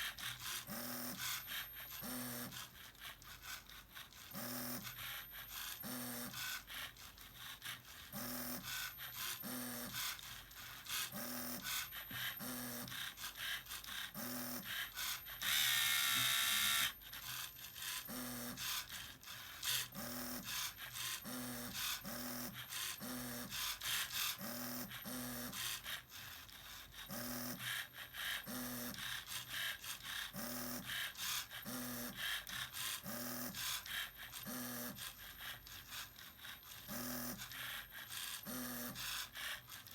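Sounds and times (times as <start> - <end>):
small electric motors whirring: 0.0 - 39.9.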